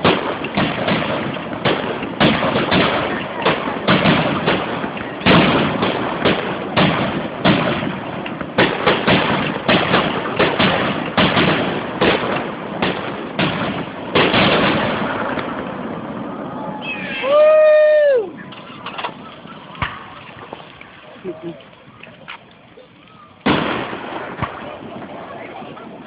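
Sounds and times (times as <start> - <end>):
fireworks booming: 0.0 - 22.0, 23.4 - 26.0.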